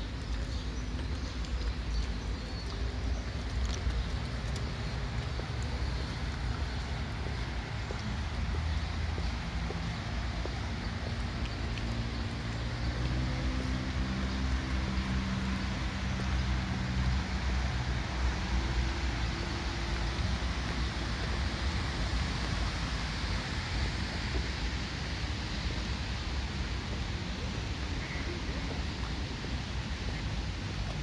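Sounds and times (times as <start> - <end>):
steady rushing noise: 3.0 - 31.0.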